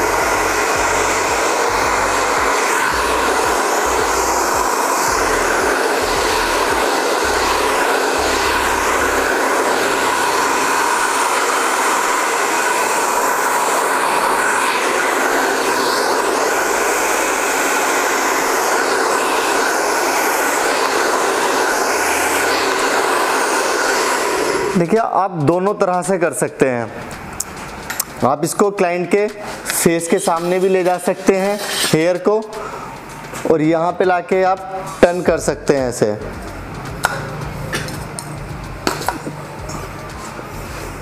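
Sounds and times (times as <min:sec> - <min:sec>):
hair dryer running: 0:00.0 - 0:25.2, 0:26.9 - 0:41.0.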